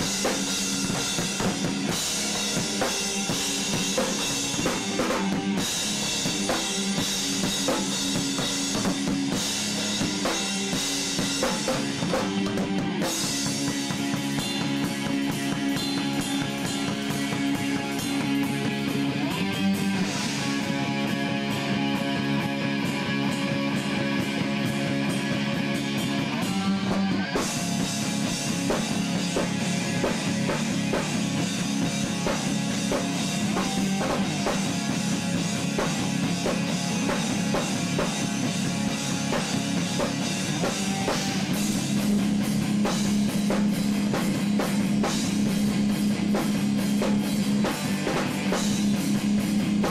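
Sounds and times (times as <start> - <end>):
drum kit: 0.0 - 49.9
electric bass: 0.0 - 49.9
electric guitar: 0.0 - 49.9.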